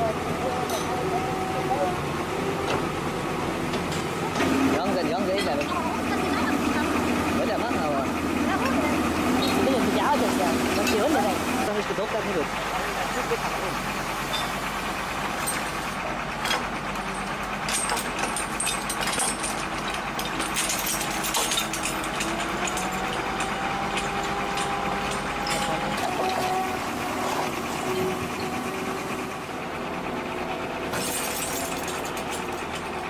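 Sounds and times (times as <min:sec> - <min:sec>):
heavy machinery engine running: 0:00.0 - 0:33.0.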